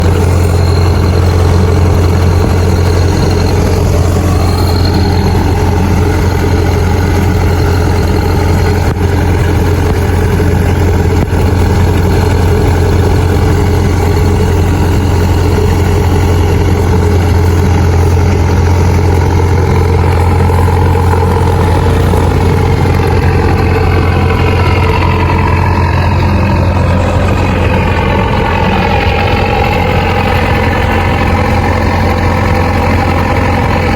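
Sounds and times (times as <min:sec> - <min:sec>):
combine harvester engine running: 0:00.0 - 0:33.9.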